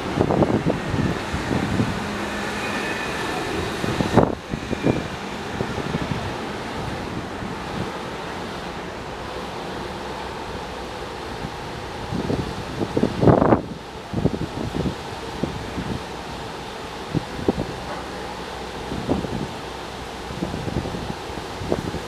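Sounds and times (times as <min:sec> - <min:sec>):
steady rushing background: 0:00.0 - 0:22.0
wind buffeting microphone: 0:00.0 - 0:22.0.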